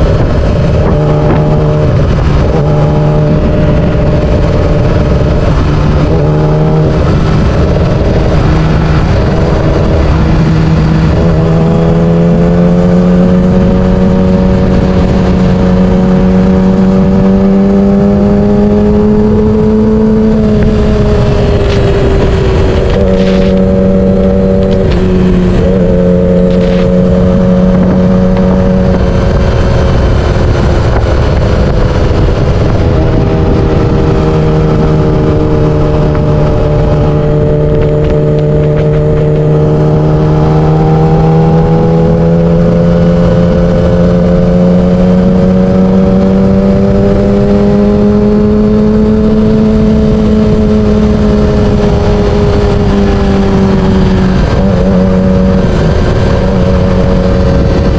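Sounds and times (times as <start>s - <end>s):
motorcycle engine running: 0.0s - 57.9s
wind rushing over microphone: 0.0s - 57.9s.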